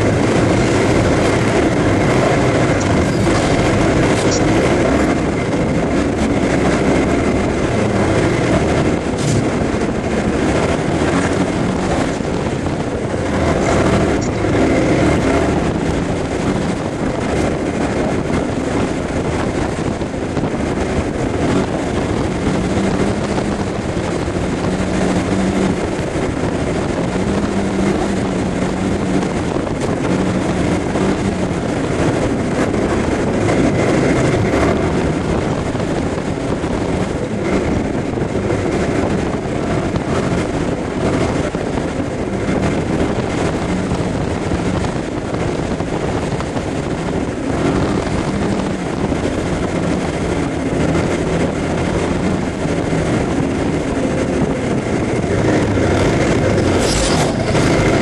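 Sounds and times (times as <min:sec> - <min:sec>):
scooter engine and wind roar: 0:00.0 - 0:58.0.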